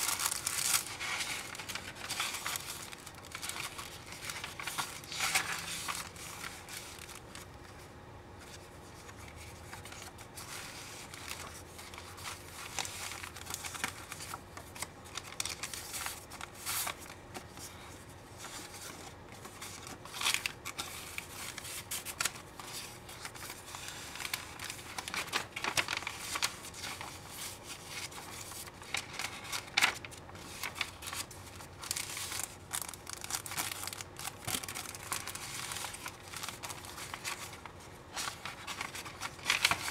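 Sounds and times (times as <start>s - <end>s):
paper rustling: 0.0s - 39.9s.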